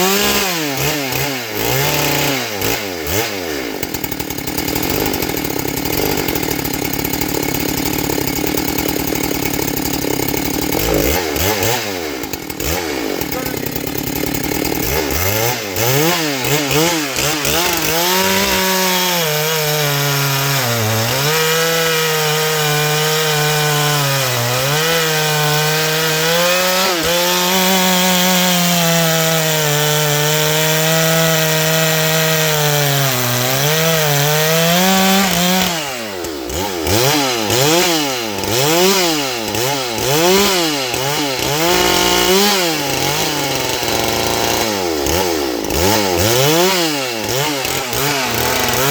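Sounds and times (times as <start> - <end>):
chainsaw cutting wood: 0.0 - 48.9
chainsaw revving: 0.0 - 48.9.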